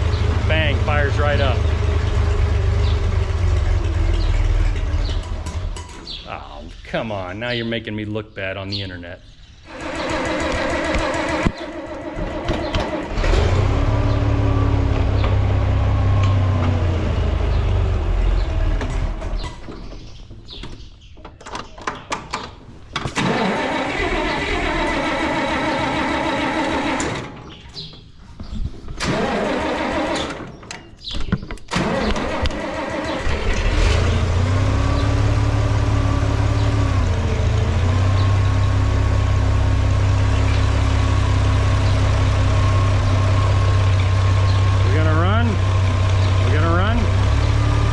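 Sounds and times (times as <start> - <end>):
tractor engine starting and stumbling: 0.0 - 7.4, 9.6 - 28.0, 28.7 - 47.9.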